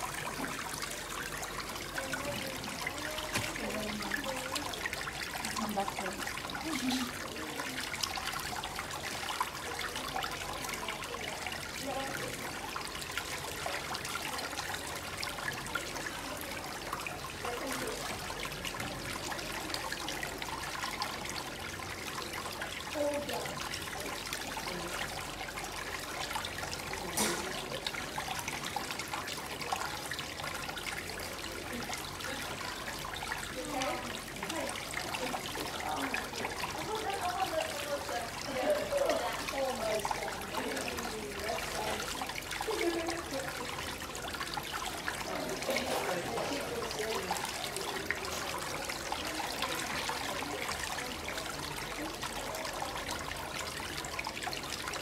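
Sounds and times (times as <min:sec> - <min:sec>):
whirlpool churning water: 0:00.0 - 0:55.0.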